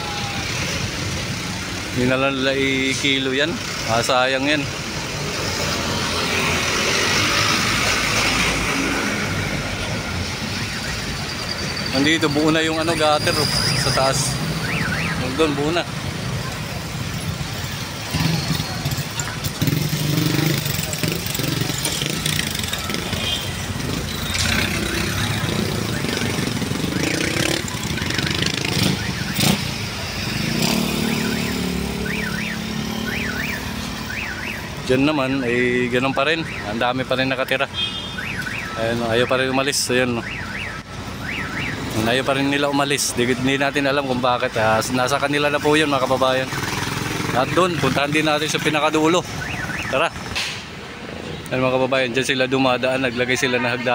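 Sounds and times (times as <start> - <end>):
motorcycle engines passing: 0.0 - 53.9.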